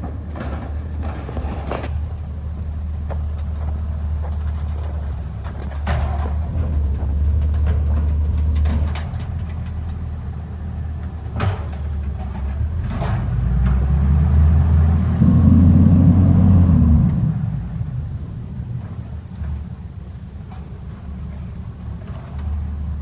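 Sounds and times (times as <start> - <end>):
garbage truck engine rumbling: 0.0 - 23.0.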